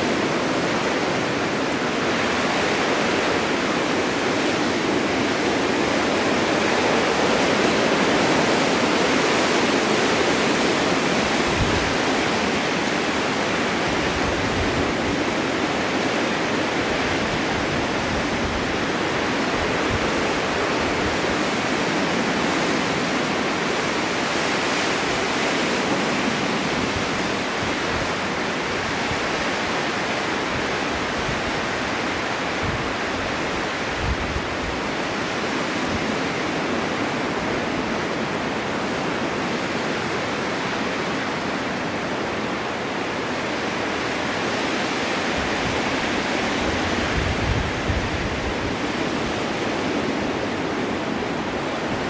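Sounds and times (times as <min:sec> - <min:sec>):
low wind buffets: 0:00.0 - 0:52.0
snowstorm wind rushing: 0:00.0 - 0:52.0.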